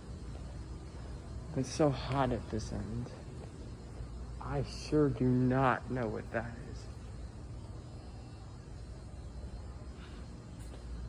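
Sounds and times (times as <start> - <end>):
air conditioning hum: 0.0 - 11.0.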